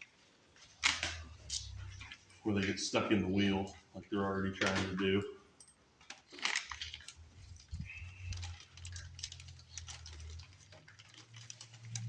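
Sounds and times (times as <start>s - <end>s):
cables clicking and rustling: 0.0s - 12.0s
low steady hum: 0.5s - 12.0s.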